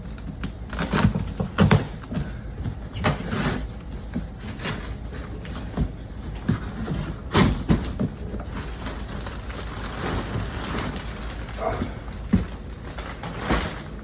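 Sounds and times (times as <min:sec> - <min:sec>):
cardboard box rustling and scraping: 0:00.7 - 0:14.0.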